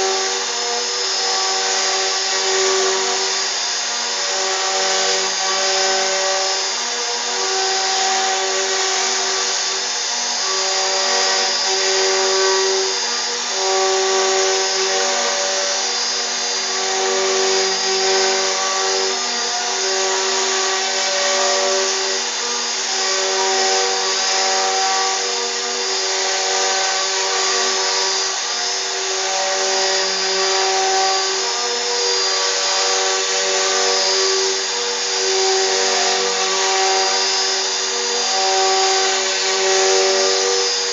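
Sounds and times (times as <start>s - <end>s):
cnc router cutting: 0.0s - 40.9s
machine humming tone: 0.0s - 40.9s.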